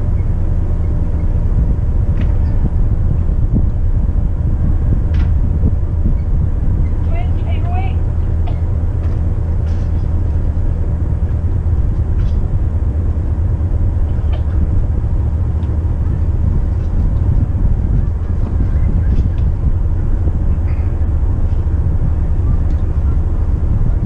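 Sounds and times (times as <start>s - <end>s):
boat engines droning: 0.0s - 24.0s.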